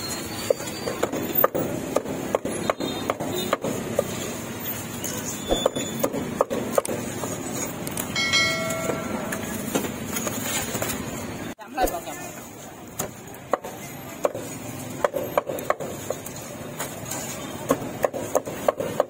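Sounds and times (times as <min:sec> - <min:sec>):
street stall background noise: 0:00.0 - 0:19.0.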